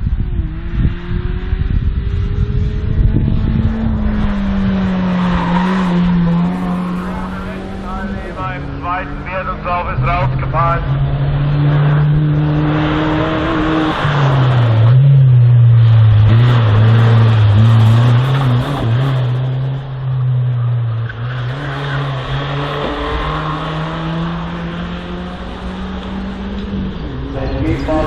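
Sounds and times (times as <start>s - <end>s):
race car engine under load: 0.1s - 28.0s.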